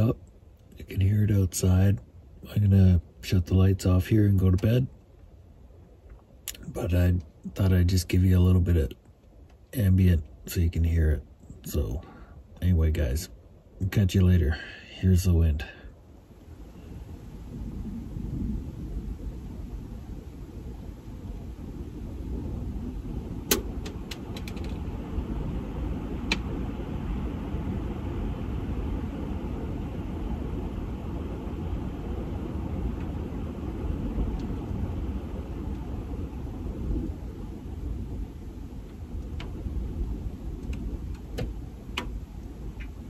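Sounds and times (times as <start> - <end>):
wind gusting against a vehicle: 0.0 - 43.0.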